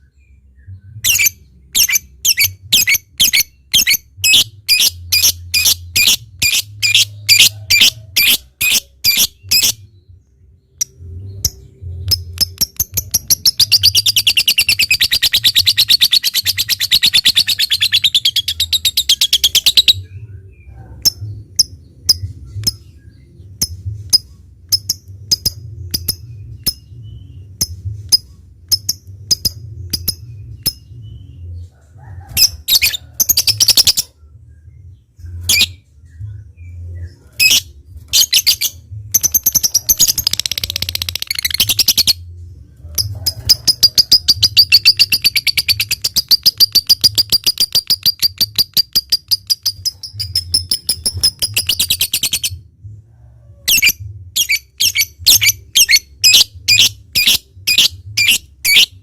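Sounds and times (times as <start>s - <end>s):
lovebird chirping and trilling: 0.7s - 9.9s, 10.7s - 31.5s, 32.3s - 34.1s, 35.2s - 35.8s, 36.6s - 42.3s, 42.9s - 52.6s, 53.6s - 59.0s.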